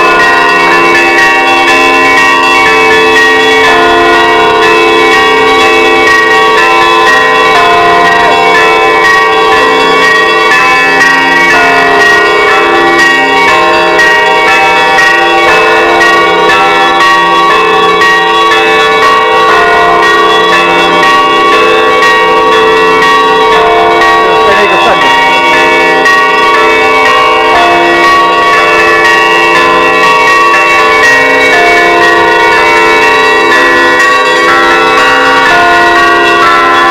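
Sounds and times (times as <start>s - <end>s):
church bells pealing: 0.0s - 36.9s.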